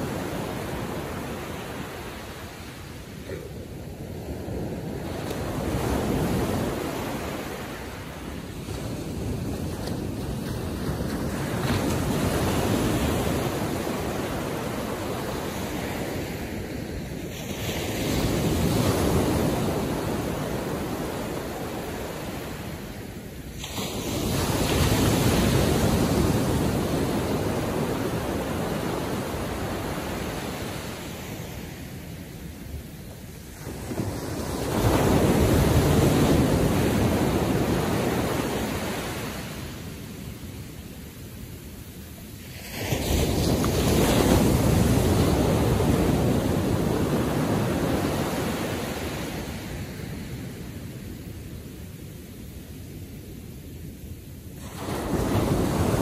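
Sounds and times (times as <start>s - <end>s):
ocean waves crashing on shore: 0.0s - 56.0s.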